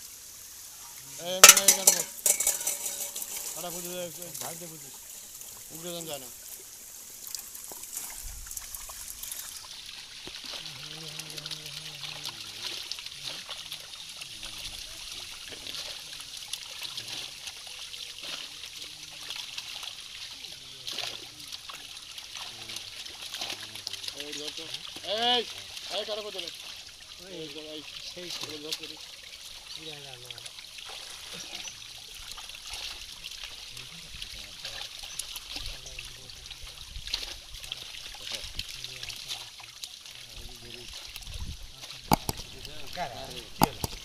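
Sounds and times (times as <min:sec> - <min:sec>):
fish splashing in water: 0:00.0 - 0:44.0.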